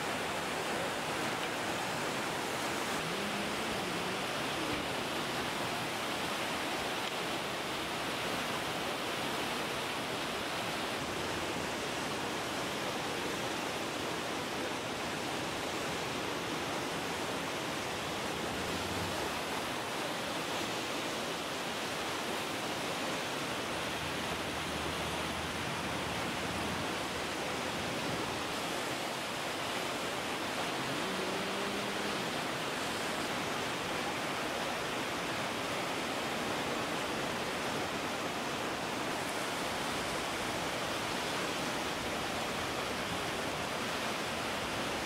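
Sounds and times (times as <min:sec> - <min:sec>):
river floodwater rushing: 0:00.0 - 0:45.0.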